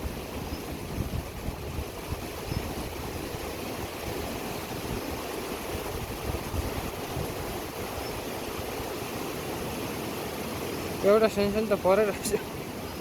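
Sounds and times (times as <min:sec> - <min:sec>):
mountain river rushing: 0:00.0 - 0:13.0.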